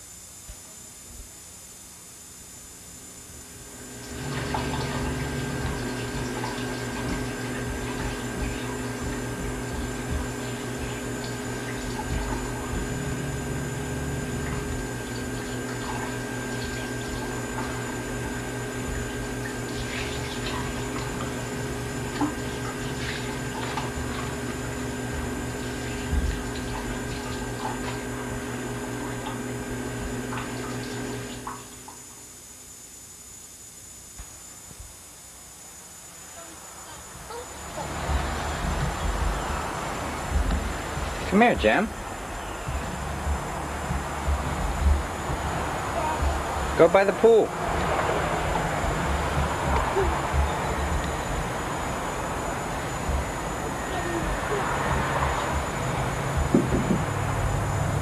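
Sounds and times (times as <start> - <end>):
steady tonal hum: 0.0 - 58.0.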